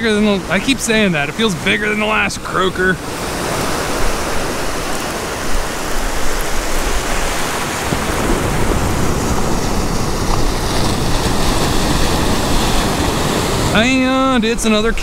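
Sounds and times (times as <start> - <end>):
ocean surf rushing: 0.0 - 15.0
wind on microphone: 0.0 - 15.0.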